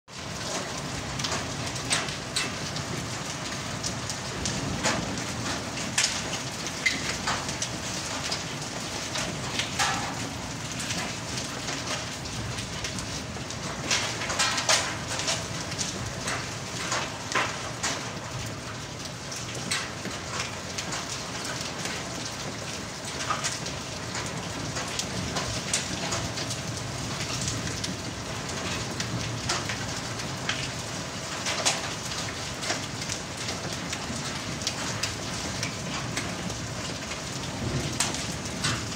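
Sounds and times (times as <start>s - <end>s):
hailstones striking hard surfaces: 3.8s - 18.5s, 19.3s - 38.9s.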